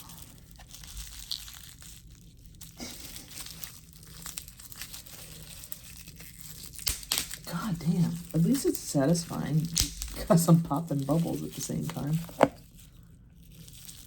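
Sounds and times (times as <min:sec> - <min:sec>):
packing tape tearing: 0:00.0 - 0:12.9
bubble wrap bubbles popping: 0:00.0 - 0:14.0
bubble wrap crinkling: 0:00.0 - 0:14.0.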